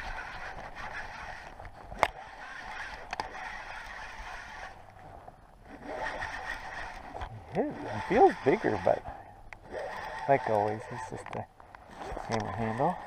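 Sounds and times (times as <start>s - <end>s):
fishing reel gears whirring: 0.0s - 13.0s.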